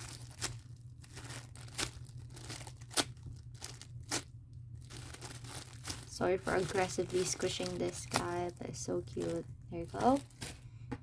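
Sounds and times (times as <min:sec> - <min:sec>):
foam toy squeezed and crinkling: 0:00.0 - 0:10.7.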